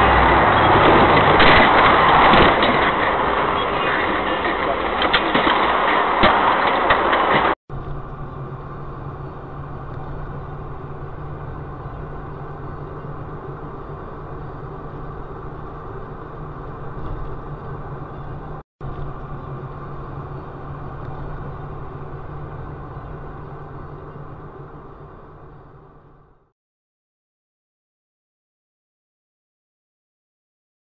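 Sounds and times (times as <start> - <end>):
car engine hum and road noise: 0.0 - 26.5.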